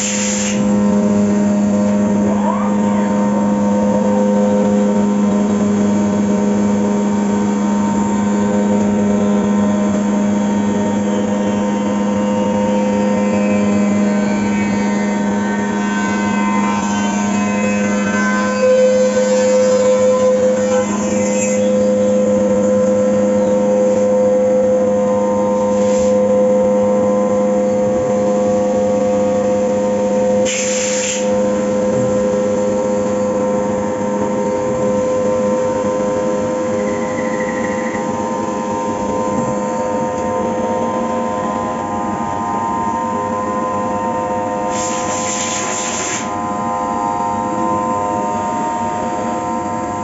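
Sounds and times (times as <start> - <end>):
milling machine whining: 0.0 - 50.0.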